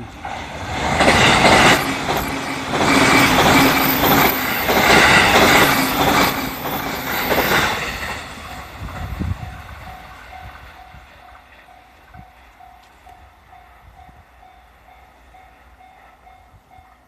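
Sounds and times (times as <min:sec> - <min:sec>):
train wheels on rails: 0:00.0 - 0:17.0
crossing warning bell ringing: 0:01.0 - 0:17.0.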